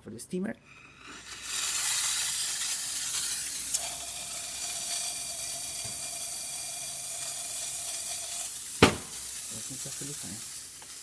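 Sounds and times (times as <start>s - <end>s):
steam wand hissing: 0.7s - 11.0s.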